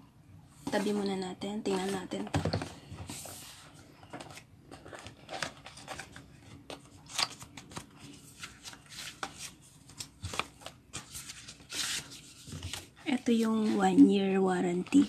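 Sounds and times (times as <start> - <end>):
cardboard and paper rustling: 0.6 - 15.0.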